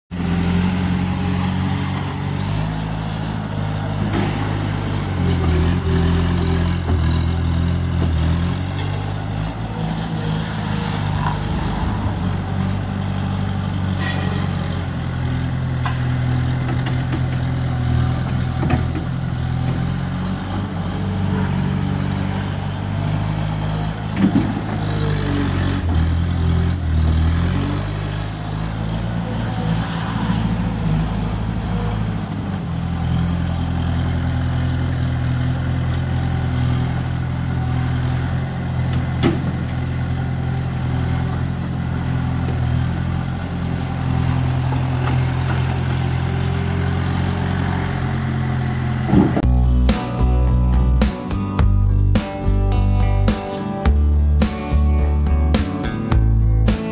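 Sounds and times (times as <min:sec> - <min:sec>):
loader engine running under load: 0:00.1 - 0:56.9.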